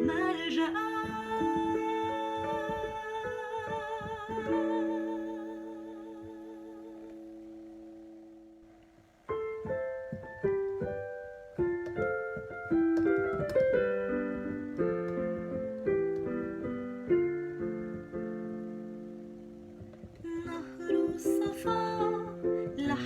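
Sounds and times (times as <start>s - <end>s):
piano melody with chords: 0.0s - 23.0s.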